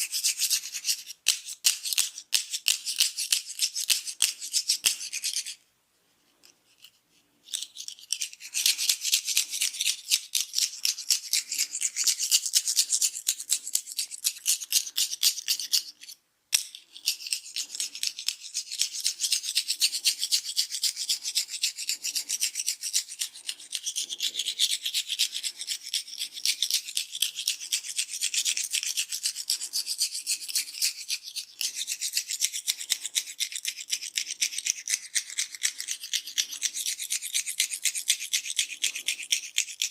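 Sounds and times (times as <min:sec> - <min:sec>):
fingers scratching hair: 0:06.8 - 0:39.8.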